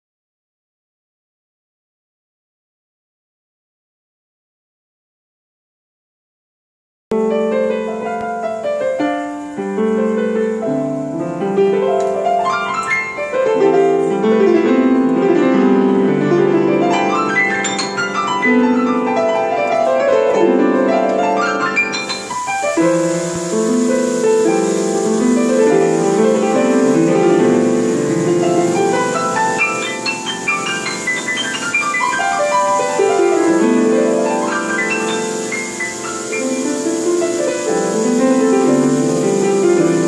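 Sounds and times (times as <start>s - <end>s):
solo piano: 7.1s - 40.0s
faint hiss: 7.2s - 40.0s.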